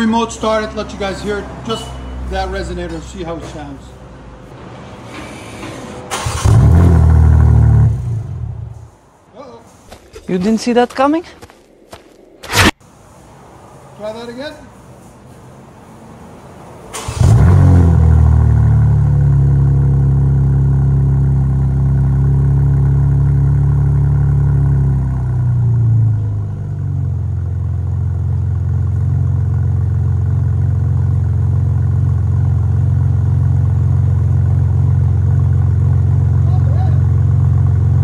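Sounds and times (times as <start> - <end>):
car engine starting and idling: 0.0 - 9.0, 15.3 - 38.0.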